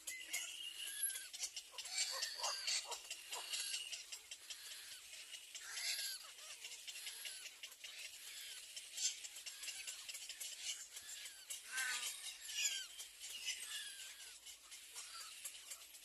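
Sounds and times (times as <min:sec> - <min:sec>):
young birds peeping: 0:00.0 - 0:16.0.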